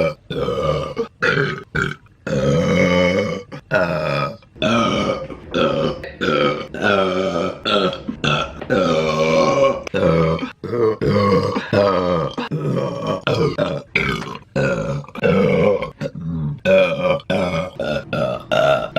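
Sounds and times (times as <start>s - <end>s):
woman burping loudly: 0.0s - 18.9s.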